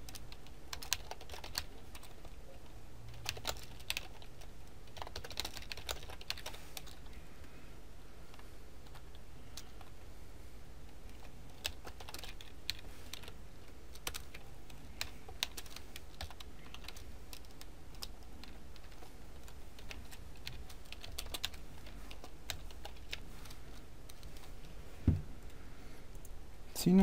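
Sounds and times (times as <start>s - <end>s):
computer keyboard typing: 0.0s - 7.2s, 8.8s - 10.0s, 11.1s - 24.5s.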